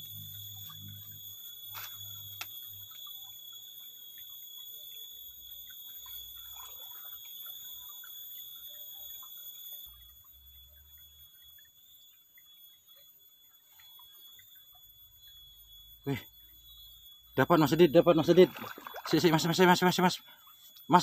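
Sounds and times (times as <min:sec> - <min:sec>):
faint outdoor ticks: 0:00.0 - 0:21.0
high-pitched whine: 0:00.0 - 0:21.0.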